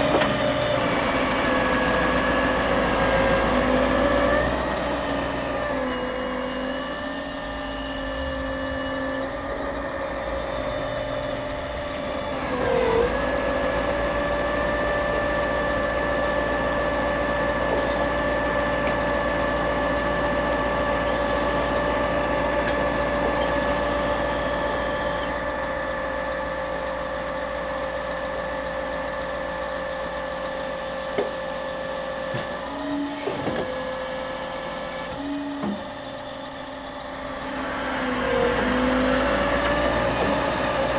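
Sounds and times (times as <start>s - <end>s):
hydraulic pump whine: 0.0s - 40.9s.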